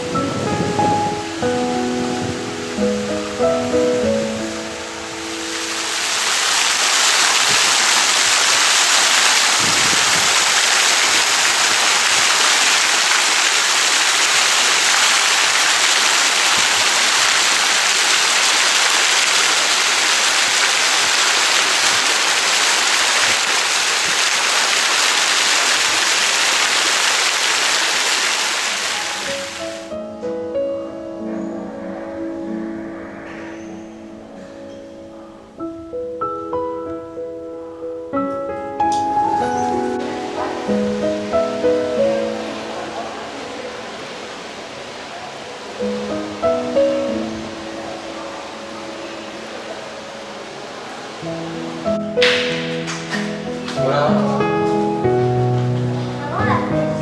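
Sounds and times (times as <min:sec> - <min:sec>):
running water rushing: 0:00.0 - 0:30.0, 0:39.0 - 0:57.0.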